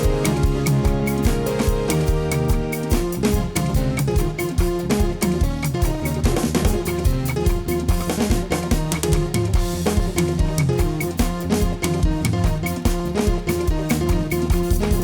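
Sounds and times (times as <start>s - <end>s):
bass: 0.0s - 15.0s
drum kit: 0.0s - 15.0s
guitar: 0.0s - 15.0s.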